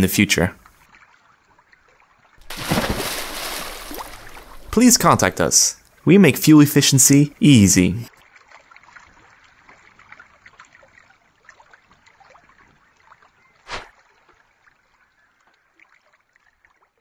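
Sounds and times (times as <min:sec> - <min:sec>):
faint water-like trickling: 0:00.4 - 0:06.3, 0:08.1 - 0:17.0.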